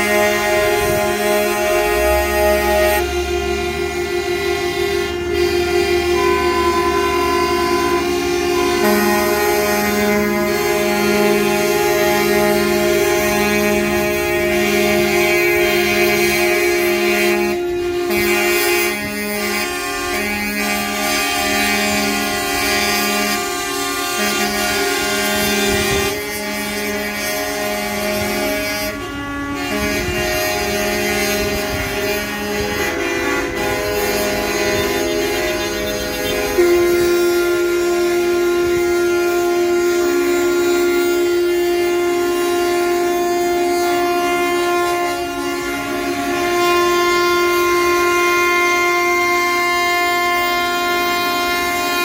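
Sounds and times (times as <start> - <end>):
diesel truck engines running: 0.0 - 52.0
truck air horns: 0.0 - 52.0.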